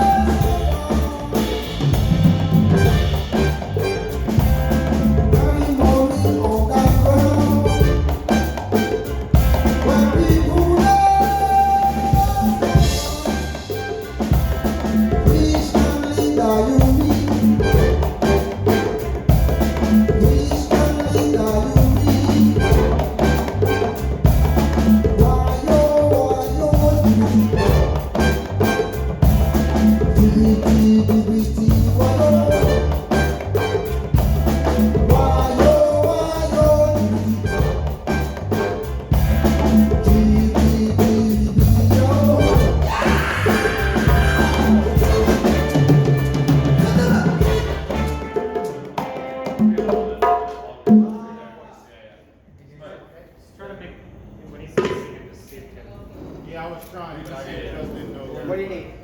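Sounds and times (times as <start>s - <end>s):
live band playing dance music: 0.0s - 51.4s.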